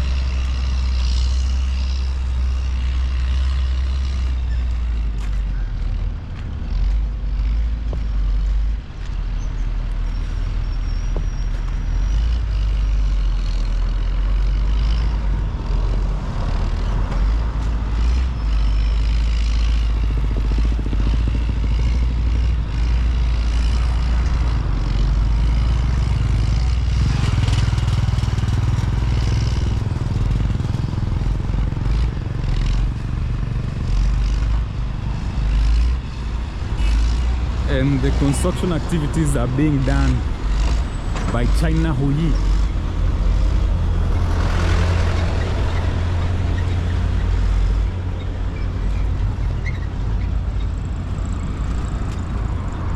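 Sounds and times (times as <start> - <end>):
highway traffic: 0.0 - 52.9.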